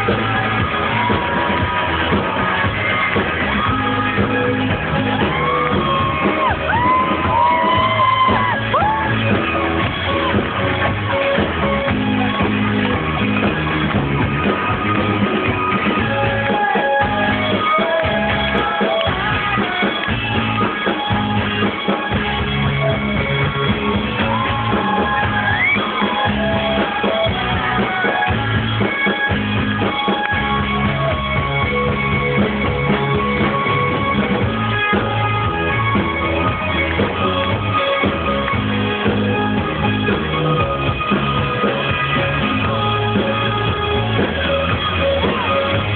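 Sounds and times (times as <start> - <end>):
rock band playing live: 0.0 - 45.9.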